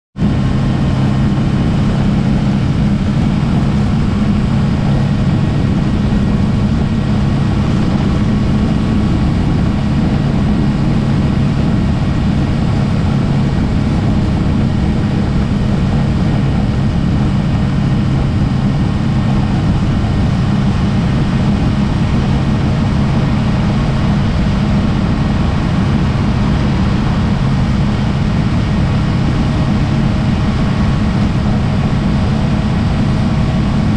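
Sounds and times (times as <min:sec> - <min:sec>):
low engine drone: 0:00.2 - 0:33.9.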